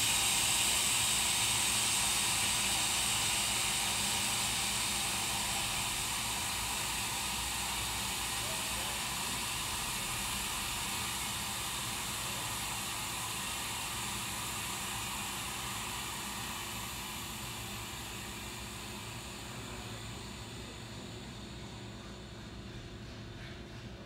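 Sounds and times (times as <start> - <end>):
hydraulic hiss: 0.0 - 23.2.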